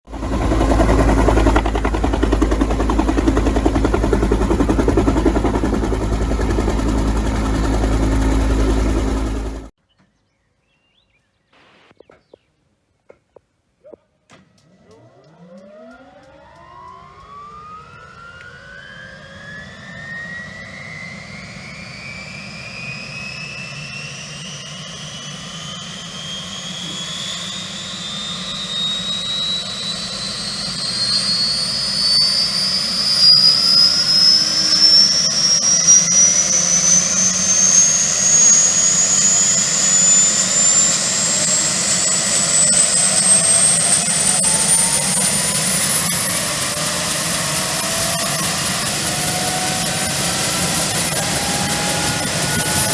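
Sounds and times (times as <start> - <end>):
helicopter turbine whine rising: 0.1 - 9.8, 14.6 - 52.9.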